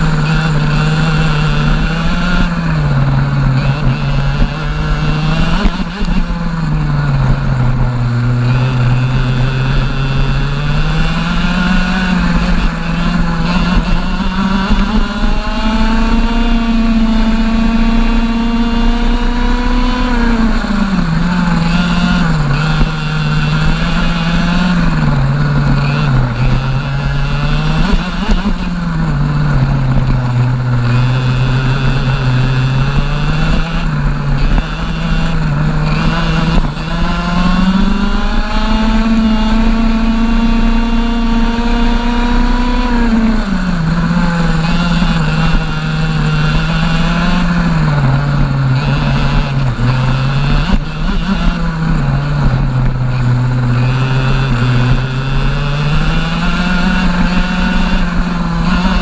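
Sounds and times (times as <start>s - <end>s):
two-stroke kart engine revving: 0.0s - 59.0s.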